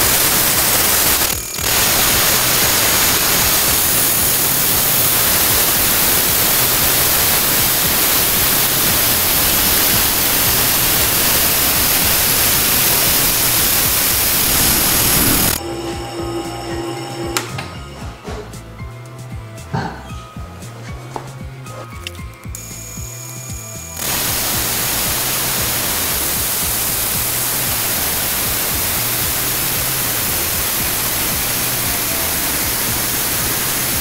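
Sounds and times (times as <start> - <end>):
brake lathe cutting hiss: 0.0 - 18.0, 22.5 - 34.0.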